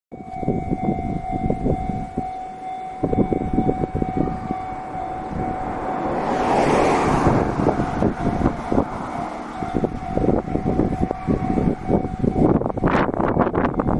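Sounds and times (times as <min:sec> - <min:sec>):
level crossing alarm tone: 0:00.1 - 0:13.9
train rumbling and clattering: 0:00.7 - 0:13.9.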